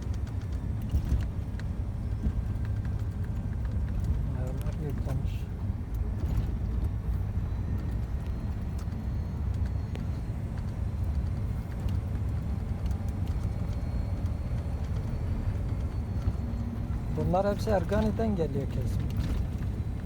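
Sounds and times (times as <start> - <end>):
road noise: 0.0 - 20.0
truck engine droning: 0.0 - 20.0.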